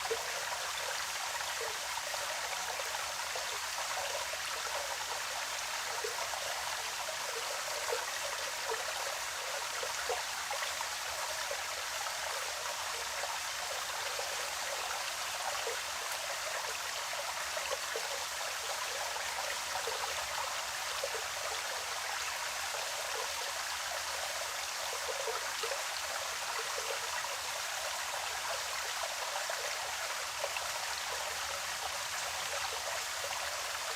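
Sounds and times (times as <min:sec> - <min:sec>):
stream running over stones: 0:00.0 - 0:33.9.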